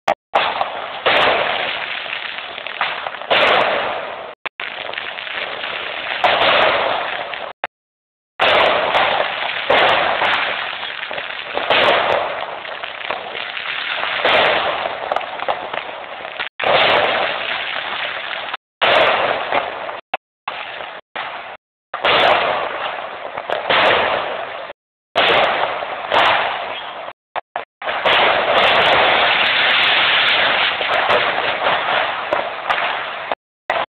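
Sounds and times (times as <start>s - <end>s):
fireworks bursting and crackling: 0.1s - 7.7s, 8.4s - 33.9s.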